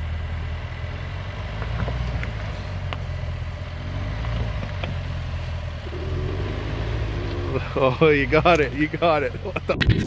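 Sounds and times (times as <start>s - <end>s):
suv engine at low revs: 0.0s - 10.0s.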